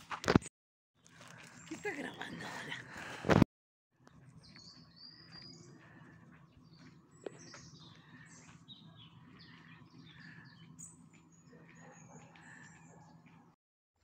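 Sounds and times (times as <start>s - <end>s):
small birds chirping: 1.0s - 2.9s, 4.0s - 13.6s.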